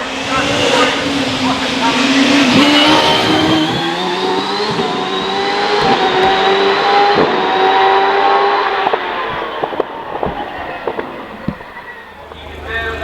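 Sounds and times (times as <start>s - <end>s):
race car engine revving high: 0.0s - 13.0s
engine pops and crackles: 0.2s - 13.0s.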